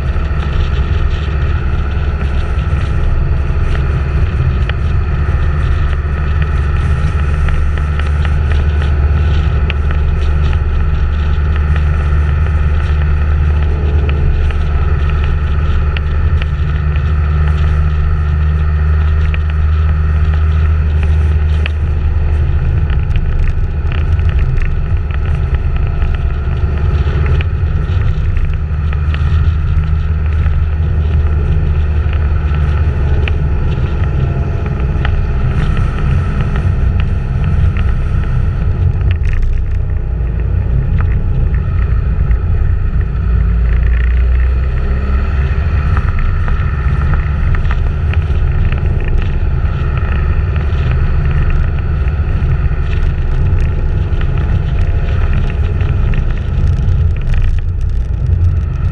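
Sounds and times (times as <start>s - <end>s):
vehicle engine running: 0.0s - 58.9s
wind rumble on microphone: 0.0s - 58.9s.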